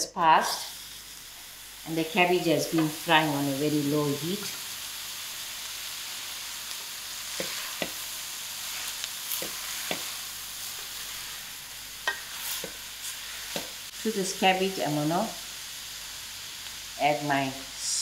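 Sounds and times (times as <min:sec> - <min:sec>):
cabbage sizzling in oil: 0:00.0 - 0:18.0.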